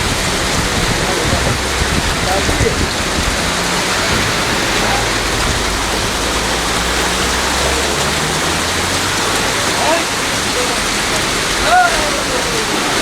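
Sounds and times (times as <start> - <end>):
heavy rain: 0.0 - 13.0
running water: 0.0 - 13.0.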